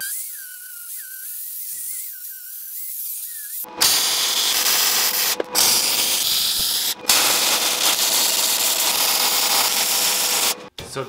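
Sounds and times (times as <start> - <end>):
power tool cutting steel tube: 0.0 - 10.7.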